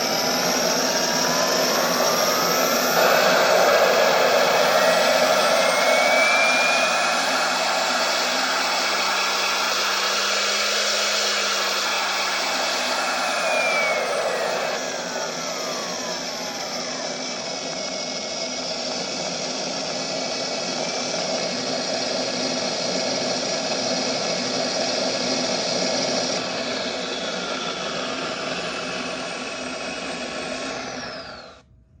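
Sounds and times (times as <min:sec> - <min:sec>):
simulated turboprop engine: 0:00.0 - 0:31.7.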